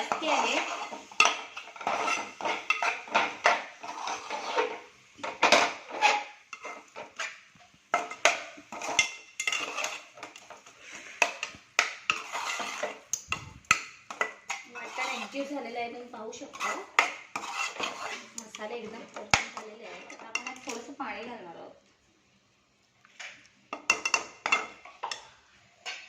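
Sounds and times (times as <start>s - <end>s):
spoon scraping a cooking pan: 0.0s - 21.0s, 23.0s - 26.0s.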